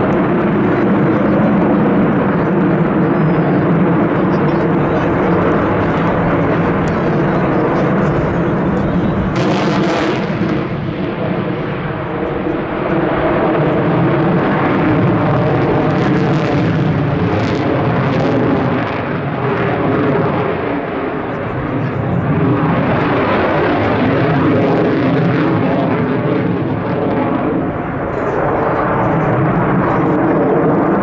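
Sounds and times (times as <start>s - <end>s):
fighter jet engine rumble: 0.0s - 31.0s.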